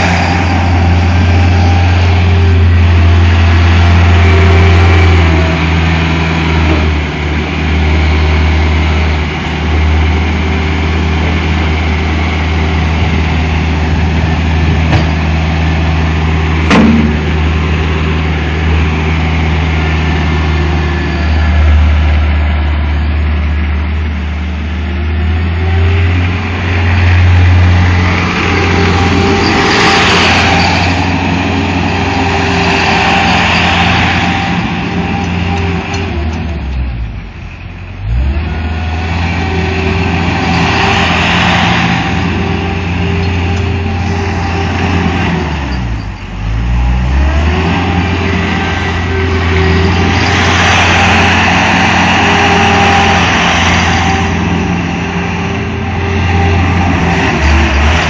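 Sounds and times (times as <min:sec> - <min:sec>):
loader engine running: 0:00.0 - 0:58.0.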